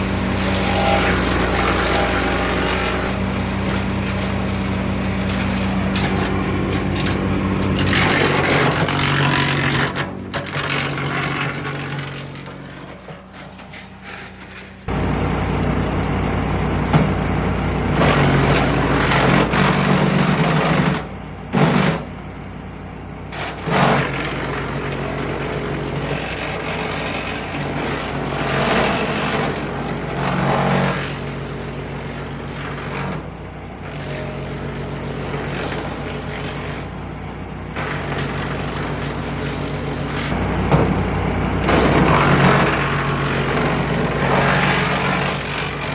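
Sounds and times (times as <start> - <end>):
wood chipper engine running: 0.0 - 45.9.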